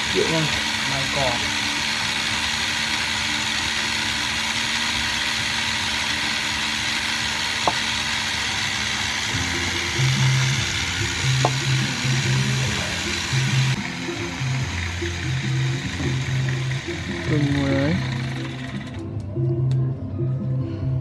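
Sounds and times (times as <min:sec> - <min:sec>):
threshing machine running: 0:00.0 - 0:19.2.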